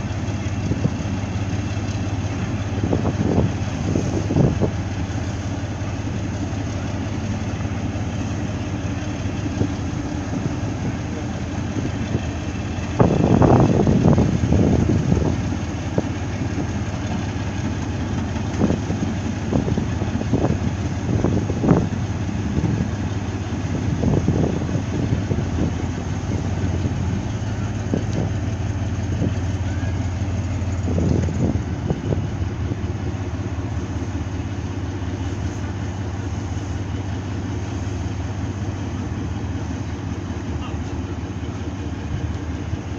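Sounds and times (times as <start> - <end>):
ship engine droning: 0.0 - 42.9.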